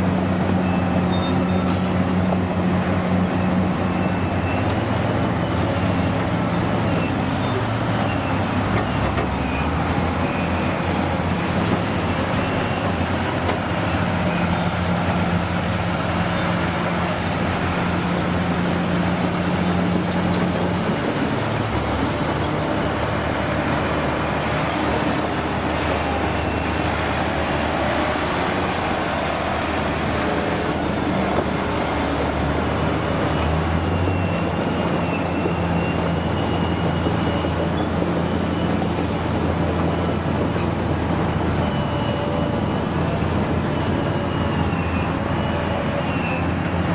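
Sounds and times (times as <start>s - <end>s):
diesel truck engines running: 0.0s - 46.9s.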